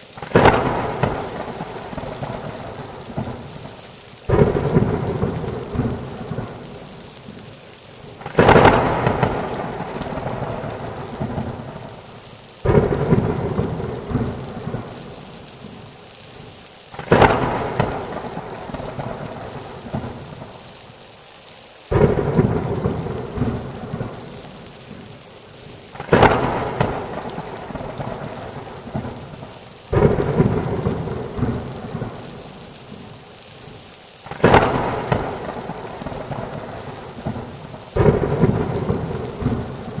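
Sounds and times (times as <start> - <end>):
steady rain: 0.0 - 40.0
thunder claps: 0.2 - 7.4, 8.2 - 12.0, 12.6 - 15.8, 17.0 - 20.6, 21.9 - 24.9, 25.9 - 33.2, 34.3 - 40.0.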